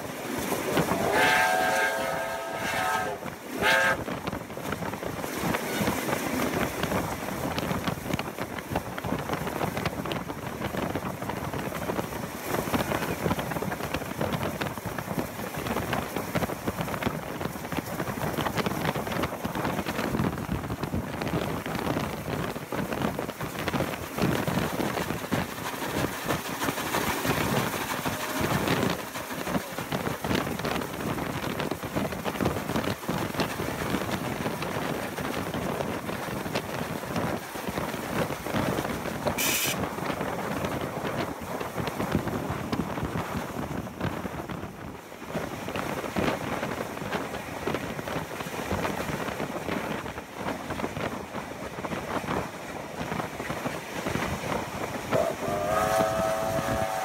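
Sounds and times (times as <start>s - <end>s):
steam locomotives running: 0.0s - 57.0s
wind on microphone: 0.0s - 57.0s.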